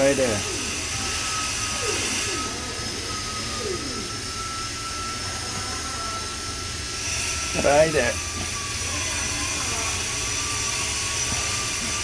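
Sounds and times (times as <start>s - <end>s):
machinery humming and whining: 0.0s - 12.0s.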